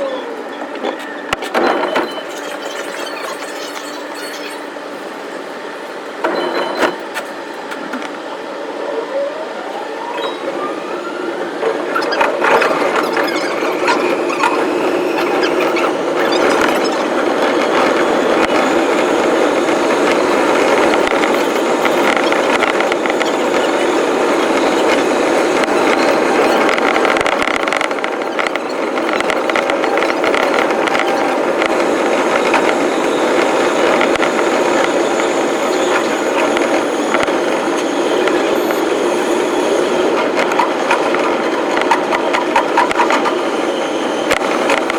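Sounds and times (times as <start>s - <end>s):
rail clatter: 0.0s - 8.4s, 10.1s - 44.9s
electric train motor whine: 0.0s - 44.9s
train rumble: 0.0s - 44.9s
wheel squeal: 0.0s - 44.9s.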